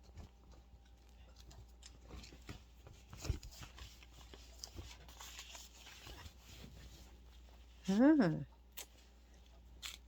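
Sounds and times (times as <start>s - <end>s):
rustling of packaging and clothing: 0.0s - 10.0s.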